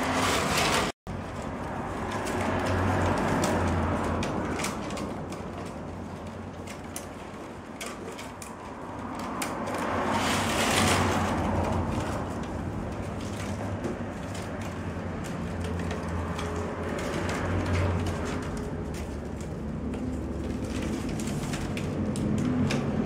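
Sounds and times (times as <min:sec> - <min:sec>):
rod scraping through weave: 0:00.0 - 0:23.0
willow rods rustling and clicking: 0:00.0 - 0:23.0.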